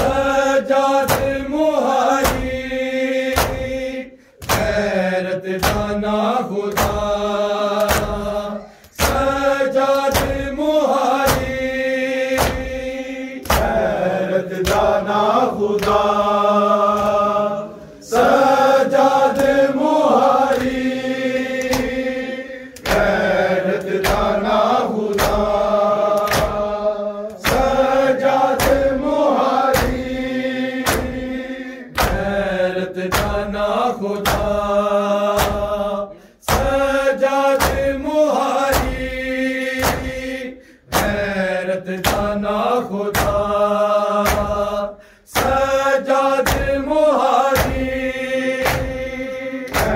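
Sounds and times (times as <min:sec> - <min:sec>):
men chanting a lament: 0:00.0 - 0:49.9
hands slapping bare chests: 0:01.0 - 0:17.3, 0:18.2 - 0:43.6, 0:44.2 - 0:49.9.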